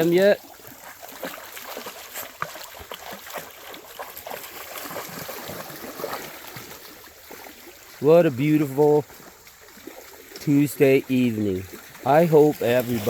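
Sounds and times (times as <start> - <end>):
creek water trickling: 0.0 - 13.0.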